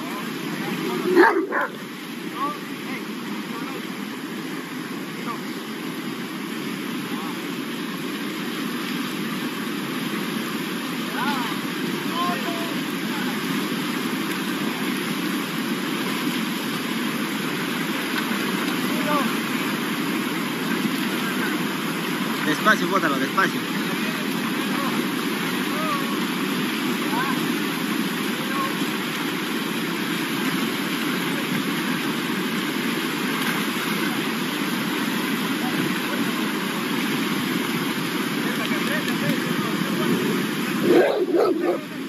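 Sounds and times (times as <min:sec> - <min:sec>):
river rushing: 0:00.0 - 0:42.0.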